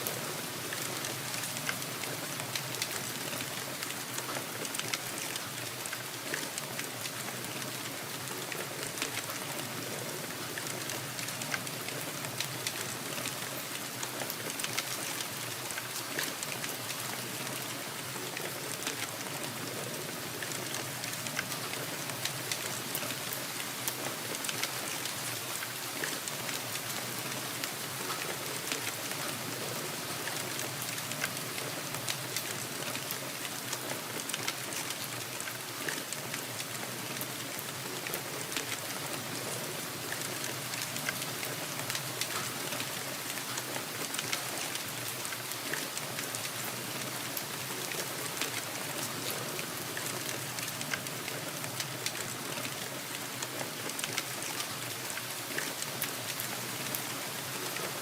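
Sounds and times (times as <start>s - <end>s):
raindrops ticking: 0.0s - 58.0s
steady rain falling: 0.0s - 58.0s.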